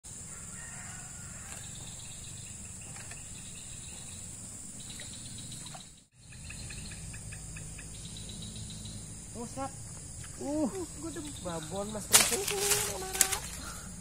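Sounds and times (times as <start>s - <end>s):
insect chorus chirping: 0.0s - 14.0s
low outdoor rumble: 1.1s - 14.0s.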